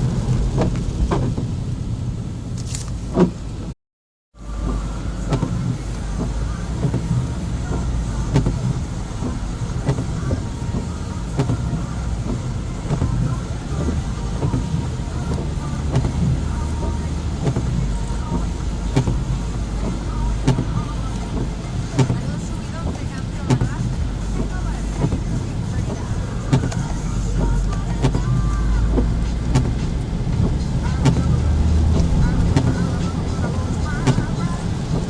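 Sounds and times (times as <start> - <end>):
car interior engine and road rumble: 0.0 - 3.8, 4.4 - 35.0.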